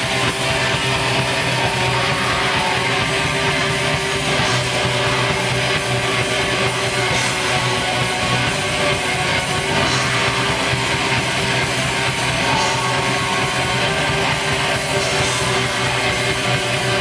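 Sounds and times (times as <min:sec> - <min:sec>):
distorted electric guitars: 0:00.0 - 0:17.0.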